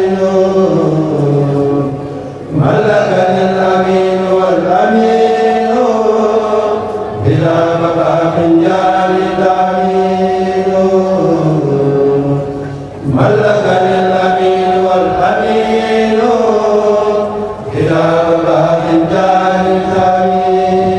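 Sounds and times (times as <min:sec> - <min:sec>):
group chanting without instruments: 0:00.0 - 0:20.9.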